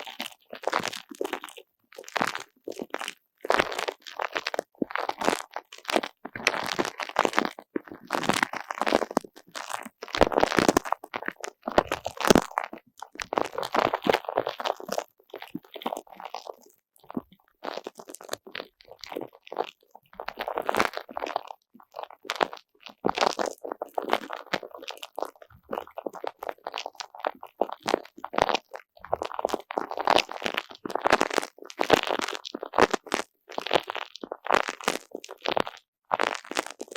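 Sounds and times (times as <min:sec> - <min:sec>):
squishy toy crackling and crunching: 0:00.1 - 0:36.9.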